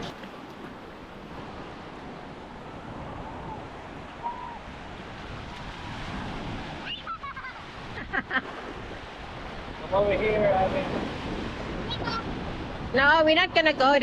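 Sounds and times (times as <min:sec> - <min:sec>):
waves washing onto beach: 0:00.0 - 0:14.0.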